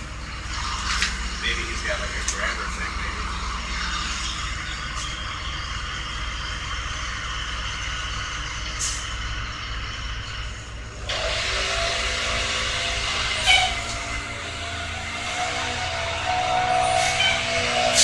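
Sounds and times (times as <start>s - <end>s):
truck engine rumble and hiss: 0.0s - 18.0s.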